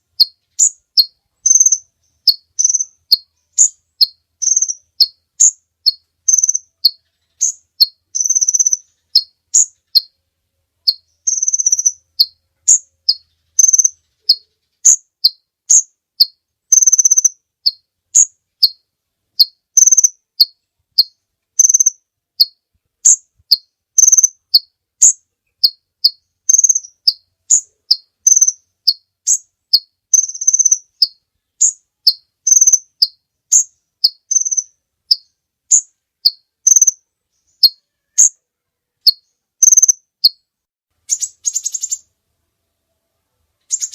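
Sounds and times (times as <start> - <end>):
bird singing high thin chirps: 0.0 - 10.2, 10.8 - 18.8, 19.4 - 38.4, 39.0 - 40.5, 41.1 - 42.1, 43.7 - 43.9
buzzy bird notes: 0.0 - 10.2, 10.8 - 18.8, 19.4 - 38.4.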